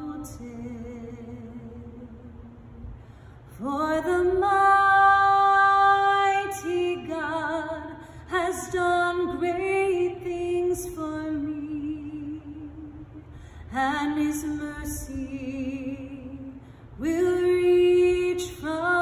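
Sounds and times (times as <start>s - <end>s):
woman singing with vibrato: 0.0s - 19.0s.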